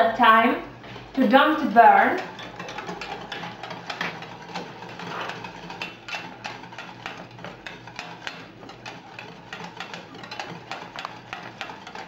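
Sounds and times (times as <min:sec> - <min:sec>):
spoon scraping a saucepan: 0:01.2 - 0:12.0.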